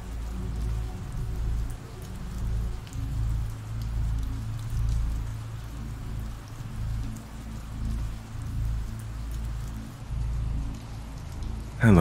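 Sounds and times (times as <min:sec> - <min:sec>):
steady rain with dripping: 0:00.0 - 0:12.0.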